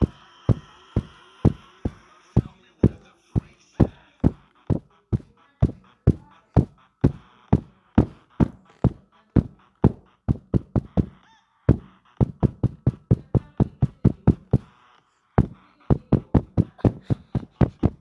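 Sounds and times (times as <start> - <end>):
sharp knocking: 0.0 - 3.0, 3.8 - 14.7, 15.4 - 18.0.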